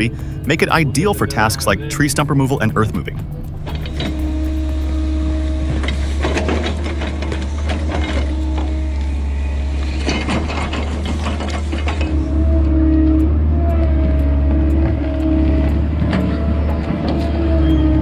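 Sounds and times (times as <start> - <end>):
excavator diesel engine humming: 0.0 - 18.0.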